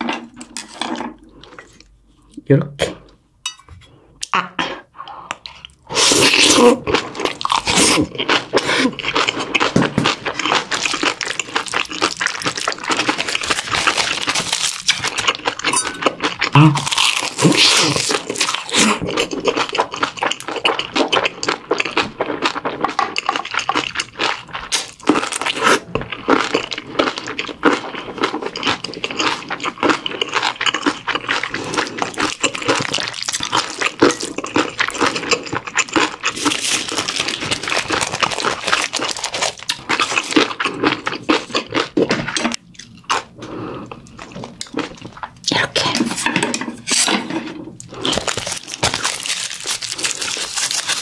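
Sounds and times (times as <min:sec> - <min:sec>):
wet chewing with crunches: 0:05.3 - 0:45.4, 0:47.8 - 0:51.0.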